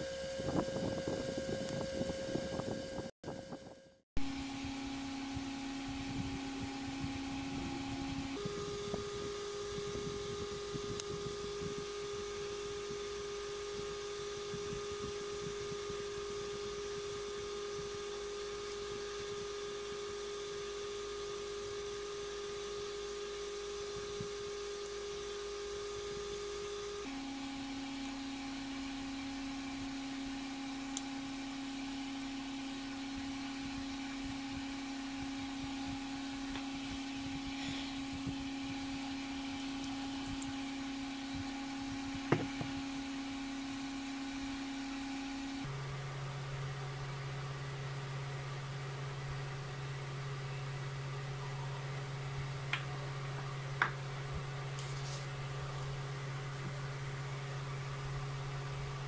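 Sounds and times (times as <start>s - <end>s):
motor-like hum: 0.0s - 59.0s.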